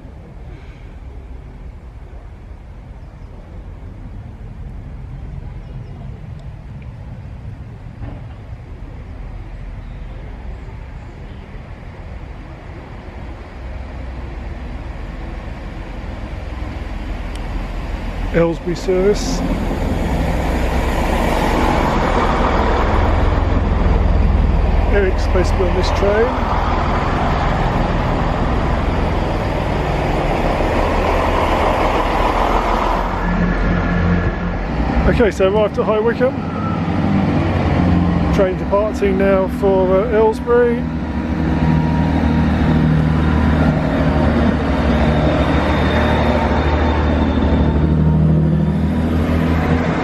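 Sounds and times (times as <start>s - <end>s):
diesel train rumble: 0.0s - 50.0s.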